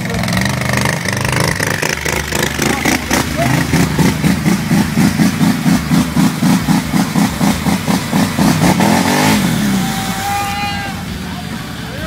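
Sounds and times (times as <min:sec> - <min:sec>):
quad bike engine revving: 0:00.0 - 0:12.0
wheels churning in mud: 0:00.0 - 0:12.0.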